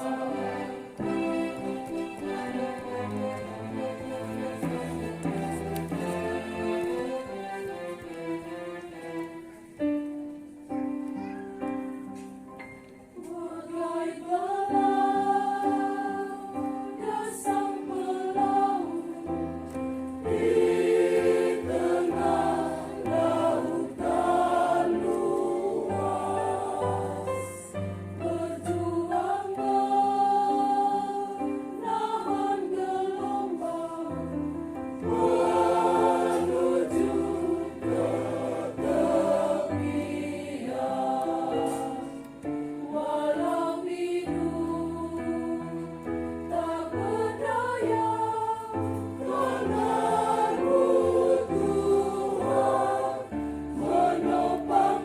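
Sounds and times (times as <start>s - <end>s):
choir singing a hymn: 0.0s - 9.5s, 11.8s - 55.0s
instrumental accompaniment: 0.0s - 55.0s.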